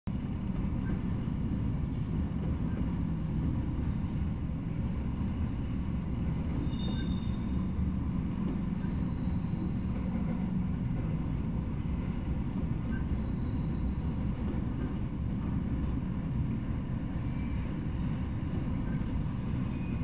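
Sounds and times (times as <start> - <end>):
steel wheels rumbling on rails: 0.1 - 20.0.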